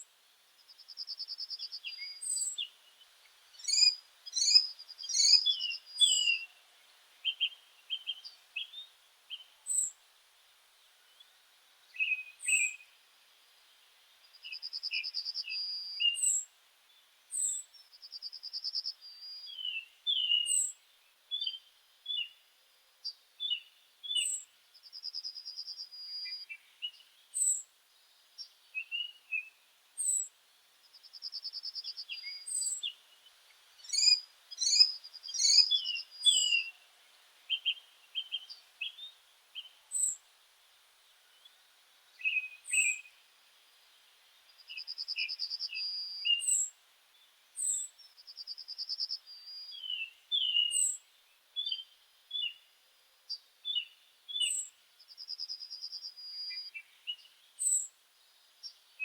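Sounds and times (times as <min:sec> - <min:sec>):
songbirds singing and calling: 0:00.0 - 0:59.0.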